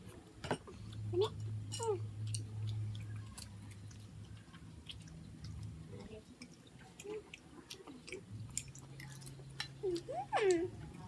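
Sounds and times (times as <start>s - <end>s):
soft chewing: 0.0s - 11.0s
steady low hum: 0.0s - 11.0s.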